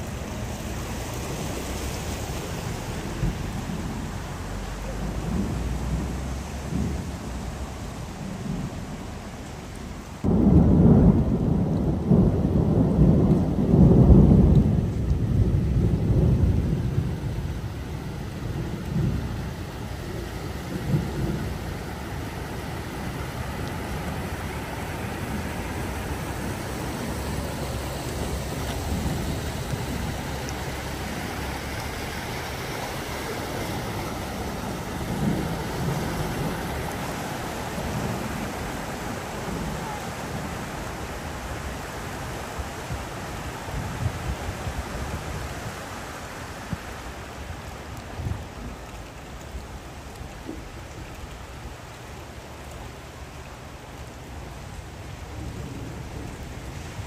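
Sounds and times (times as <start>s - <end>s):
car splashing through water: 0.0s - 57.0s
heavy rain and running water: 0.0s - 57.0s.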